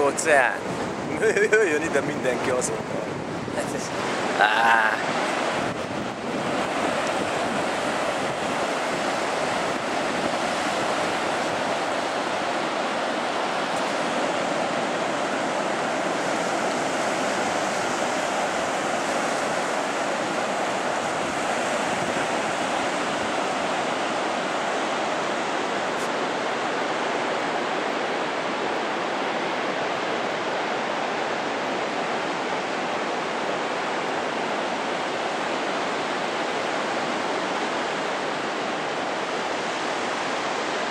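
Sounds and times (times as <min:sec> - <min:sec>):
surf breaking on beach: 0:00.0 - 0:40.9.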